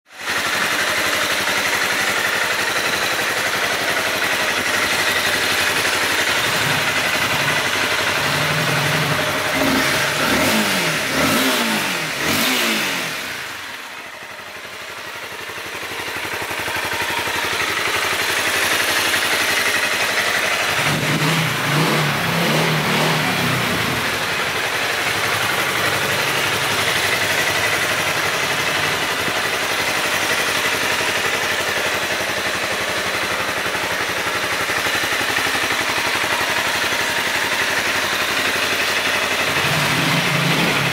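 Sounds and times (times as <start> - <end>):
motorcycle engine revving: 0.2 - 40.9.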